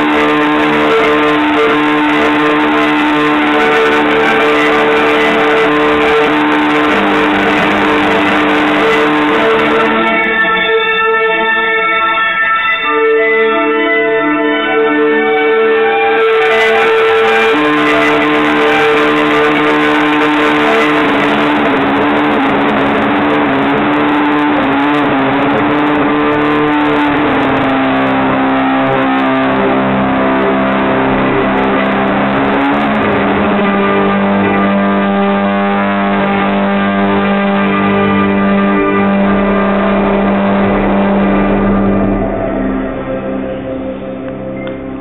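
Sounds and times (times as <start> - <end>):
electric violin playing: 0.0 - 45.0.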